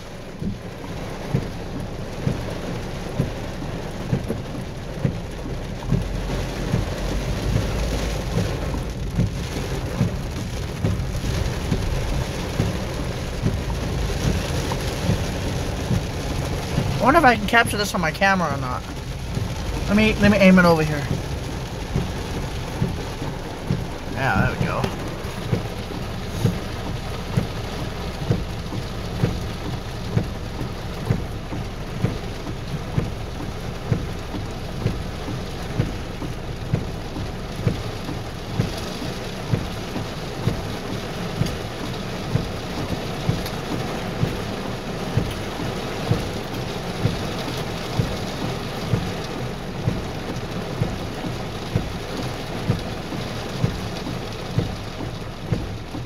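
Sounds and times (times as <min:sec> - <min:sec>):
heavy rain drumming on car roof: 0:00.0 - 0:56.0
windshield wipers thumping: 0:00.1 - 0:56.0.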